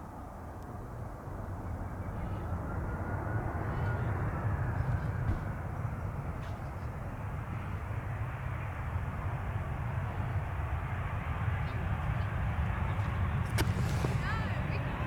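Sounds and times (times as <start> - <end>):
faint jet engine whine: 0.0 - 15.0
jet engines rumbling: 0.0 - 15.0.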